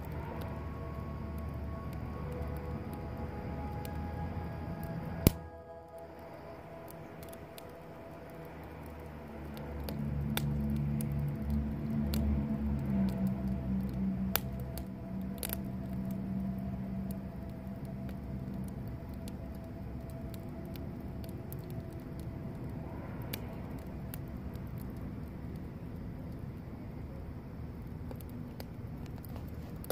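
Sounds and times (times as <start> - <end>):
campfire crackling and popping: 0.0 - 29.9
low steady hum: 0.0 - 29.9.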